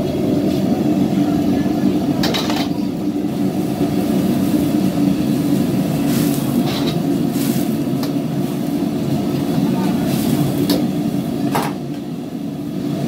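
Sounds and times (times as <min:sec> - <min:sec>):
gas burner rumbling: 0:00.0 - 0:13.0.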